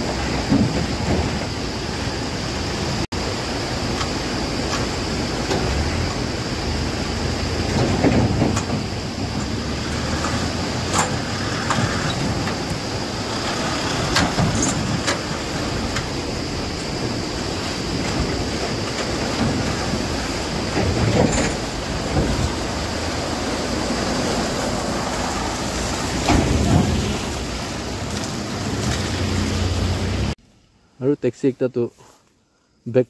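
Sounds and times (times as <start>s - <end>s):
sharp clunks of trucks jolting: 0.0s - 2.9s, 3.8s - 30.4s
tyres splashing through water: 0.0s - 30.4s
diesel truck engines rumbling: 0.0s - 32.0s.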